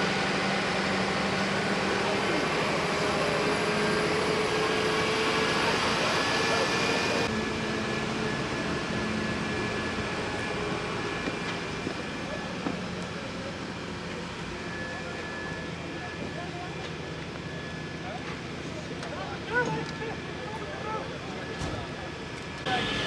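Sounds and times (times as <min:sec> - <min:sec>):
diesel engine drone: 0:00.0 - 0:23.0.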